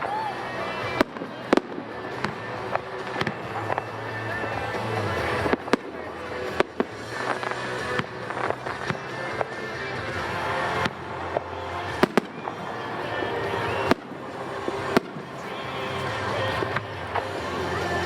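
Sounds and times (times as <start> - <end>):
fireworks bursting with sharp bangs: 0.0 - 18.0
music playing: 0.0 - 18.0.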